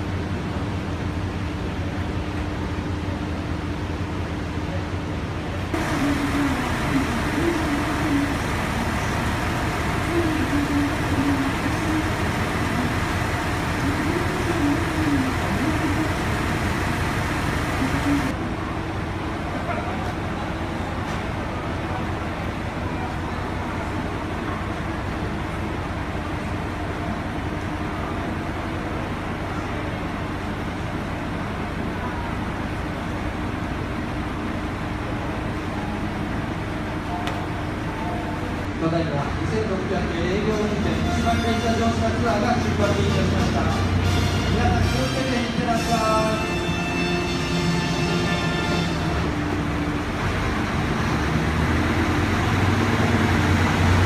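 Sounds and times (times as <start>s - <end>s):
diesel railcar engines idling: 0.0s - 54.0s.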